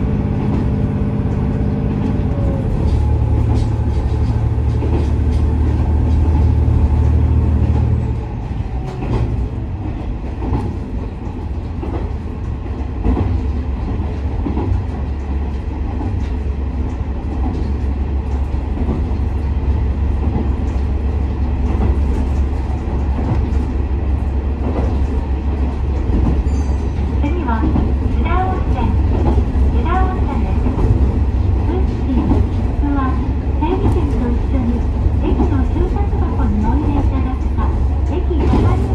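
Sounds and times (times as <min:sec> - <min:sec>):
wheels clicking over rail joints: 0:02.0 - 0:38.9.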